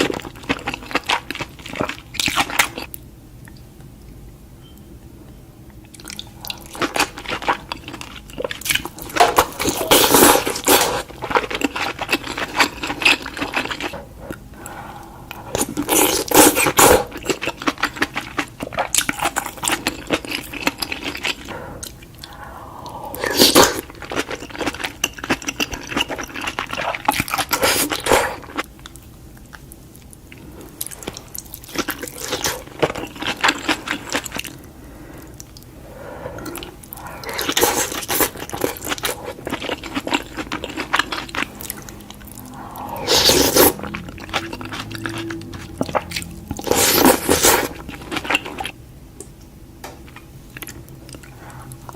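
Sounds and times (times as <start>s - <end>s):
chewing: 5.8s - 48.8s, 50.1s - 51.9s.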